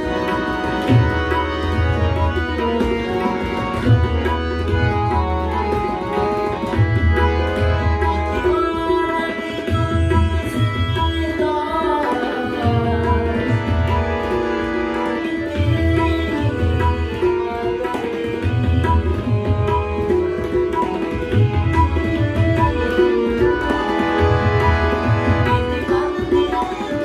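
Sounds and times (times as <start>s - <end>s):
harmonium chords: 0.0s - 27.0s
tabla playing: 0.0s - 27.0s.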